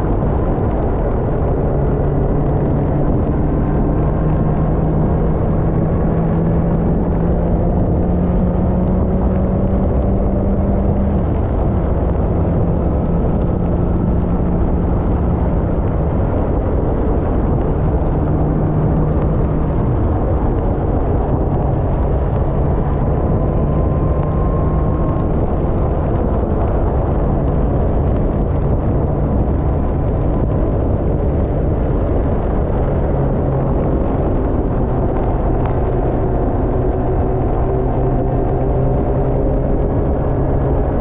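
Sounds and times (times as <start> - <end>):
motorcycle engine drone: 0.0 - 41.0
wind noise rushing: 0.0 - 41.0.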